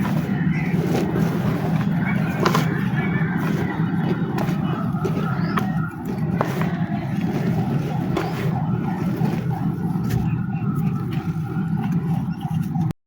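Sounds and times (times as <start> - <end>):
dry clay crumbling and crunching: 0.0 - 12.1.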